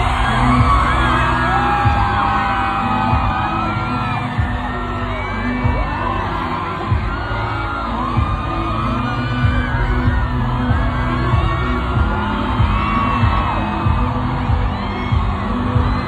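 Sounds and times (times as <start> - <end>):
crowd singing along and cheering: 0.0 - 16.0
live pop music with heavy beat: 0.0 - 16.0.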